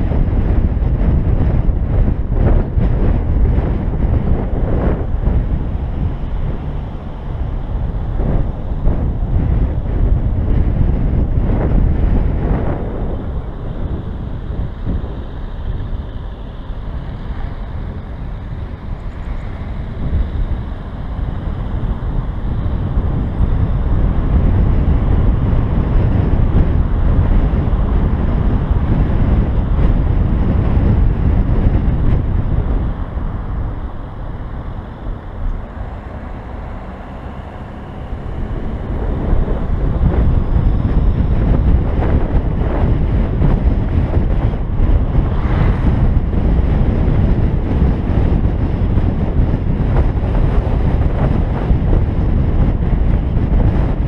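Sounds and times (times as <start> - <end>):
car tyre noise: 0.0 - 54.0
wind buffeting microphone: 0.0 - 54.0.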